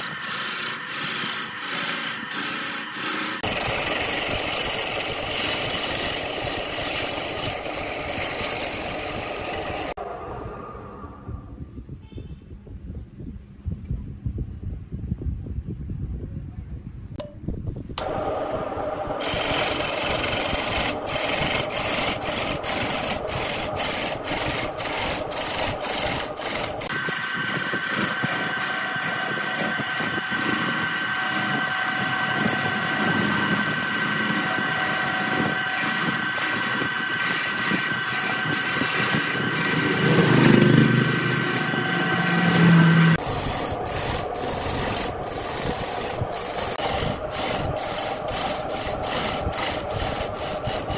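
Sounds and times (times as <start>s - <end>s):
wood lathe gouge grinding cut: 0.0s - 10.0s, 18.0s - 50.9s
steady whine: 0.0s - 11.9s, 18.0s - 50.9s.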